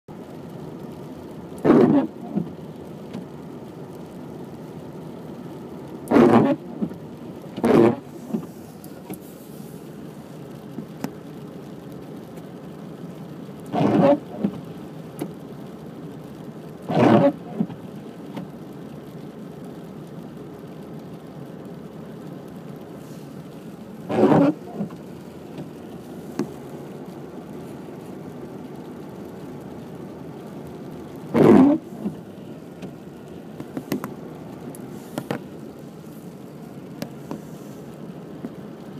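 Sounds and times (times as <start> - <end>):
steady car hum: 0.0 - 38.9
wiper blade sweeping windshield: 0.1 - 38.9.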